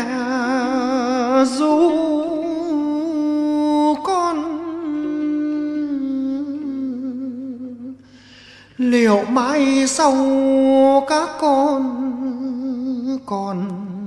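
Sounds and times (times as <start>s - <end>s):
wavering vocal melody: 0.0s - 14.0s.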